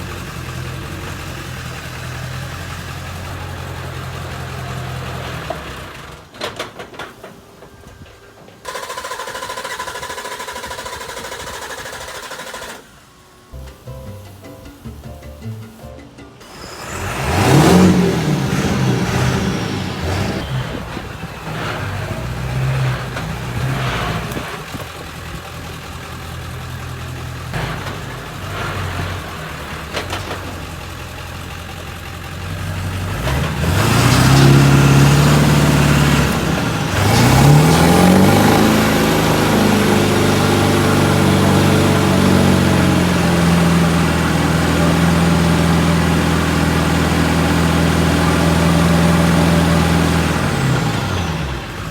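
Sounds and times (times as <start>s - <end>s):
diesel truck engine revving: 0.0s - 6.3s, 16.4s - 51.9s.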